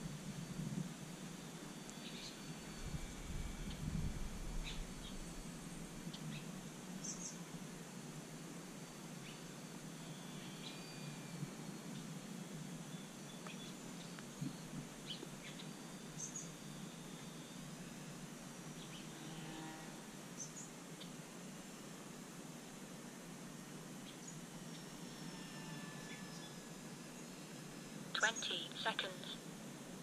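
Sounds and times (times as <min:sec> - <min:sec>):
faint steady hiss: 0:00.0 - 0:30.0.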